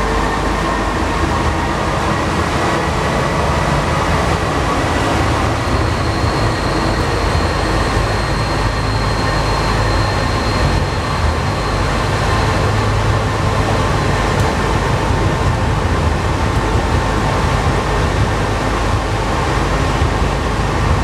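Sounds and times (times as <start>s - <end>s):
metro train rumbling: 0.0s - 21.0s.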